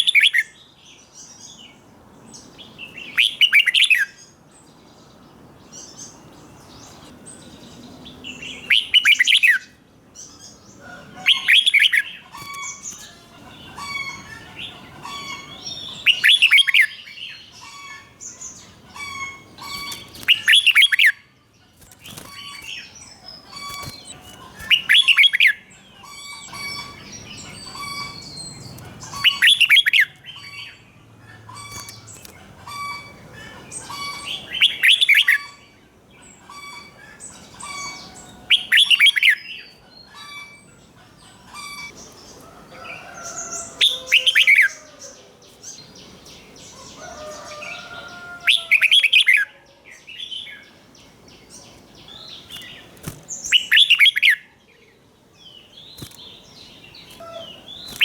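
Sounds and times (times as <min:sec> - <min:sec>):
bird warbled song phrases: 0:00.0 - 0:58.0
soft bird chirping: 0:00.0 - 0:58.0.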